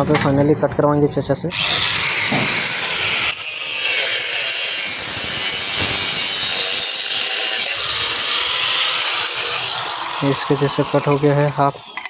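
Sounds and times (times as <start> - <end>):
steel pipe being cut: 1.5 - 12.0.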